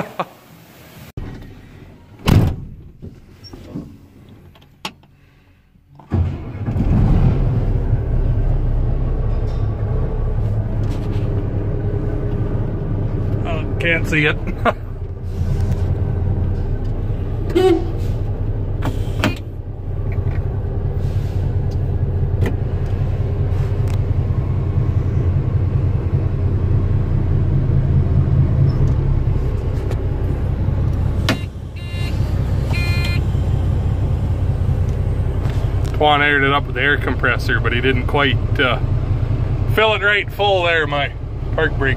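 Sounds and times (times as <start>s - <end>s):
diesel truck engine idling: 7.7s - 41.9s.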